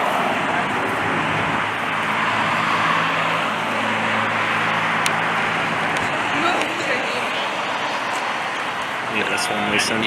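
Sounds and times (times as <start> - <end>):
steady rushing noise: 0.0 - 10.0
vehicle engine running: 0.0 - 10.0.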